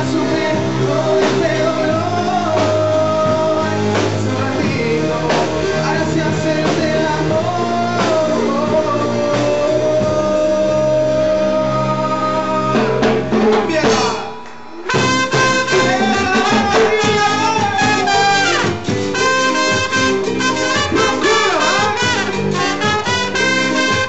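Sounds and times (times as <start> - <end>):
latin band music: 0.0 - 24.0.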